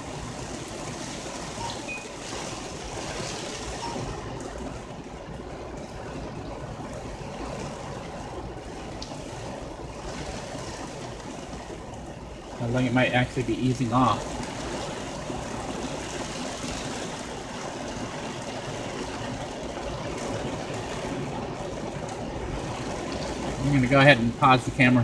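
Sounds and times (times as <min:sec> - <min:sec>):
heavy rain on a car: 0:00.0 - 0:25.0.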